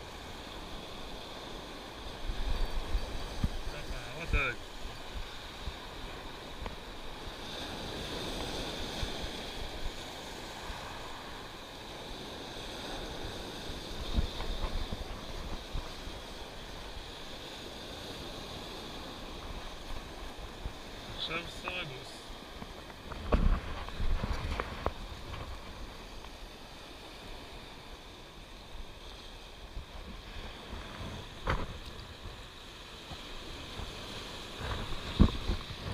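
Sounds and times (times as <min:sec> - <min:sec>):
waves breaking on rocks: 0:00.0 - 0:35.9
wind on microphone: 0:01.8 - 0:21.2, 0:22.4 - 0:26.4, 0:28.8 - 0:35.9.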